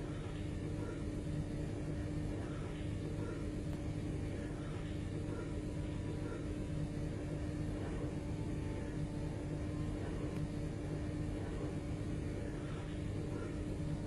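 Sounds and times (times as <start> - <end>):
constant mid-pitched tone: 0.0 - 14.0
low hum and rumble: 0.0 - 14.0.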